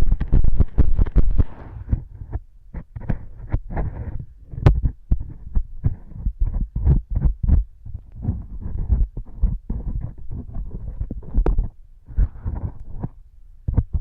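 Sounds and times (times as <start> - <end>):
tools scratching inside ear model: 0.0 - 14.0.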